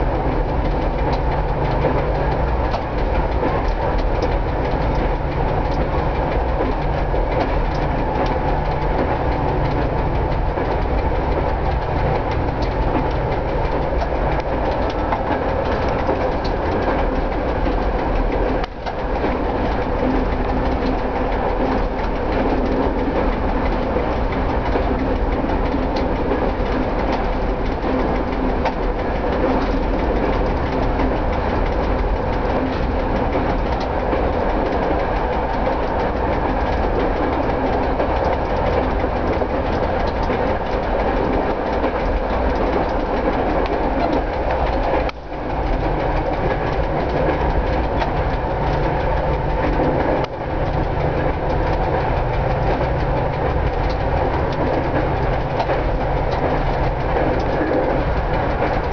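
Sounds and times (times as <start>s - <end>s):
rail joints clicking: 0.0s - 58.9s
railcar engine running: 0.0s - 58.9s.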